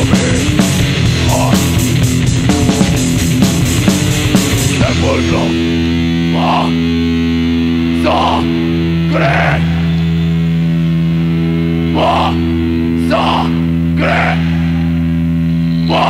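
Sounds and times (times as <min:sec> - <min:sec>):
distorted electric guitar chord: 0:00.0 - 0:16.0.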